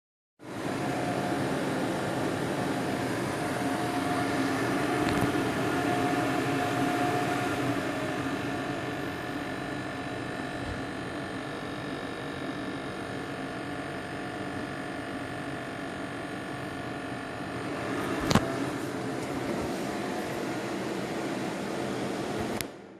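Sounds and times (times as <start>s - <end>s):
machine humming: 0.4s - 22.9s.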